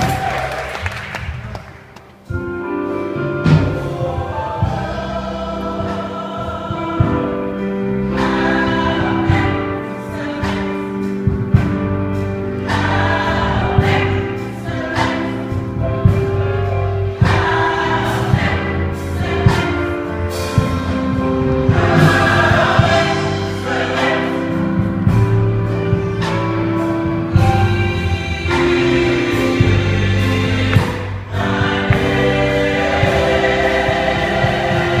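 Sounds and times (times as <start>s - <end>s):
choir singing in harmony: 2.2s - 35.0s.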